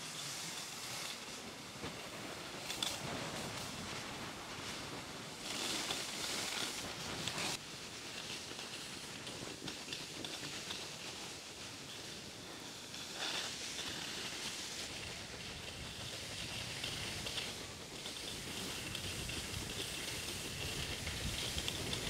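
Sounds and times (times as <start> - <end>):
skis sliding over snow: 0.0 - 22.0.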